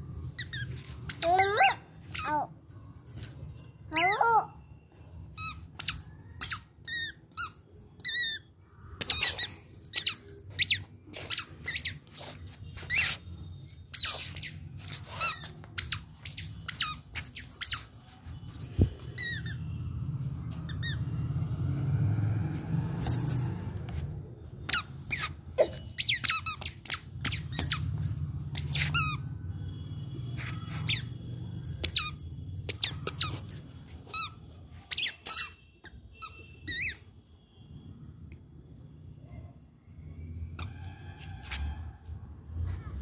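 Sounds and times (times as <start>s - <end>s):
squeaky shoes squeaking: 0.1s - 4.6s, 5.2s - 21.5s, 23.0s - 37.6s.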